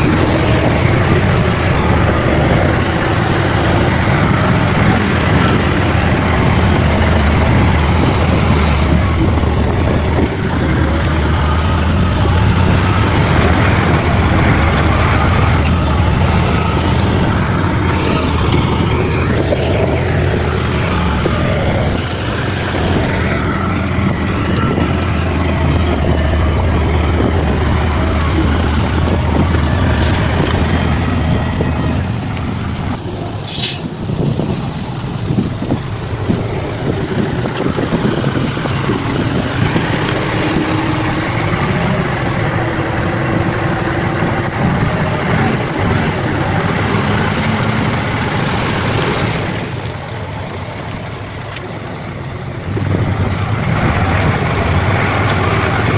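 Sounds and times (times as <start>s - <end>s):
bulldozer diesel engine: 0.0s - 55.9s.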